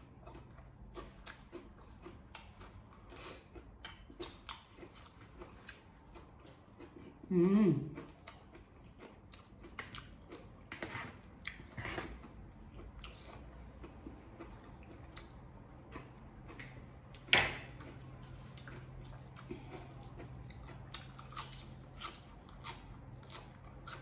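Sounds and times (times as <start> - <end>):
faint low hum: 0.0 - 24.0
chewing and mouth smacks: 0.2 - 7.2, 8.0 - 24.0.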